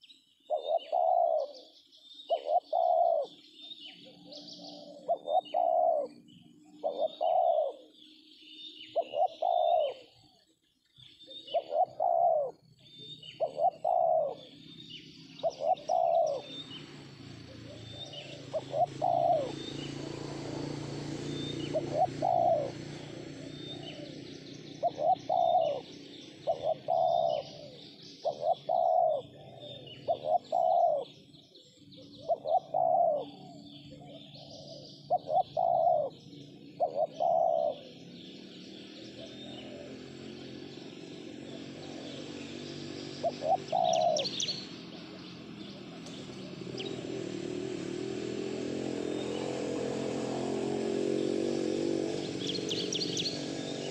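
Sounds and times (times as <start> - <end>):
doves cooing: 0.0 - 8.0, 8.9 - 10.5, 11.2 - 53.9
small birds chirping: 0.0 - 53.9.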